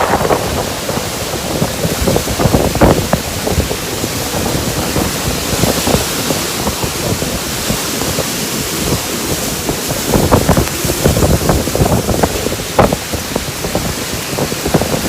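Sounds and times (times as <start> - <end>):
heavy rain: 0.0 - 15.0
wind buffeting microphone: 0.0 - 15.0.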